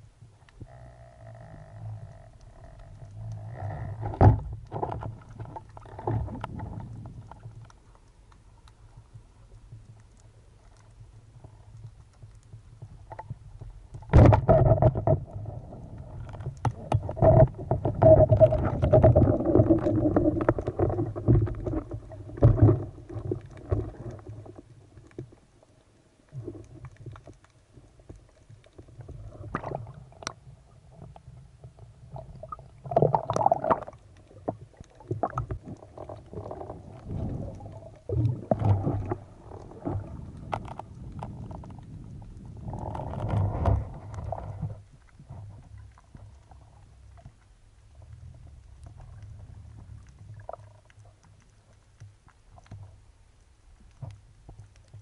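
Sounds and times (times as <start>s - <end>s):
muffled underwater water sloshing: 0.0s - 55.0s.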